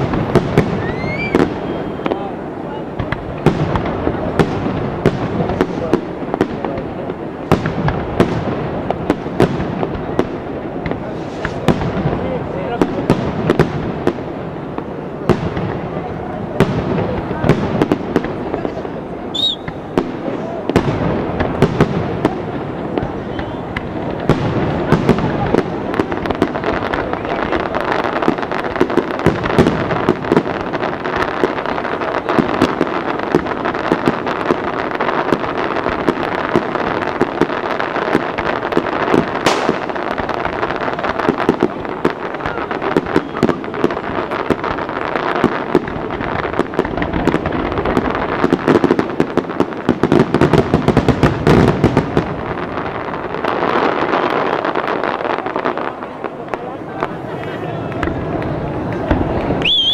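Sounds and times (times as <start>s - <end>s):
fireworks booms: 0.0s - 59.9s
fireworks bursting and crackling: 0.0s - 59.9s.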